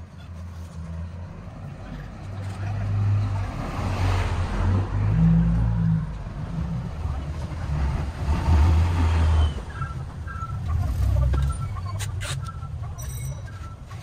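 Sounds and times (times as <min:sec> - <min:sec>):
vehicles passing close by: 0:00.0 - 0:14.0.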